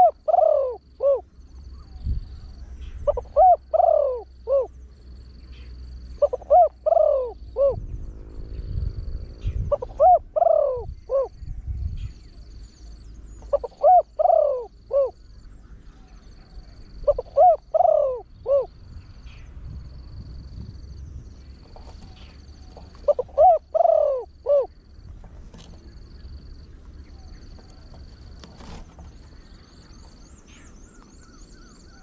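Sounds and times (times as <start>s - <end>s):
dove cooing: 0.0s - 4.8s, 5.5s - 7.9s, 9.4s - 11.4s, 12.9s - 19.4s, 20.2s - 32.0s.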